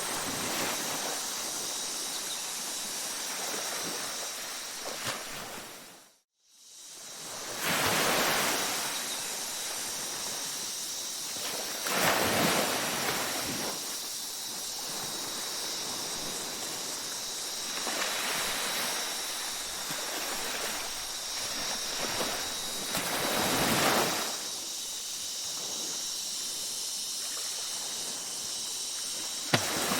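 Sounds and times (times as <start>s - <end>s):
ocean waves washing onto beach: 0.0s - 6.0s, 7.1s - 14.1s, 14.8s - 24.7s, 27.2s - 29.9s.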